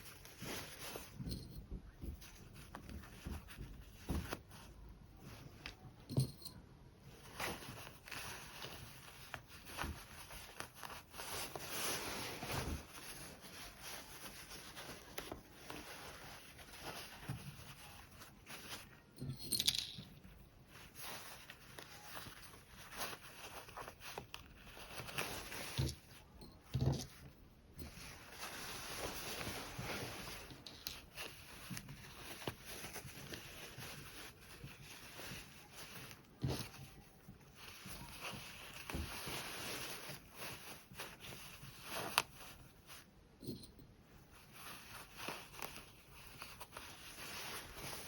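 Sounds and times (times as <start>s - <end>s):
cloth rustling and scraping: 0.0s - 48.0s.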